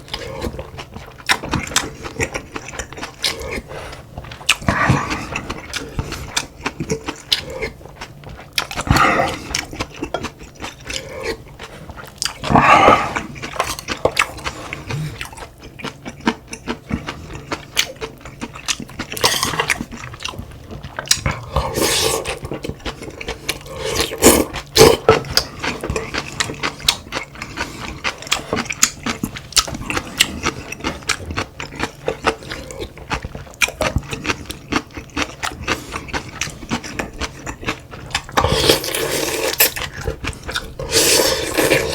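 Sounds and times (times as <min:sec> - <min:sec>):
person chewing: 0:00.0 - 0:41.9.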